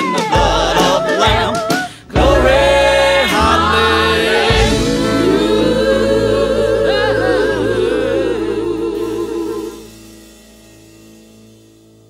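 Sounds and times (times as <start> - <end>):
music with singing: 0.0 - 10.1.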